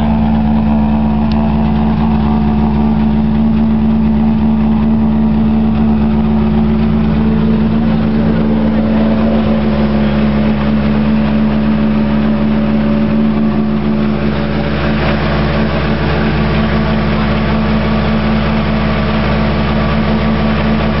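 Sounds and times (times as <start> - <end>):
rally car engine idling: 0.0 - 21.0.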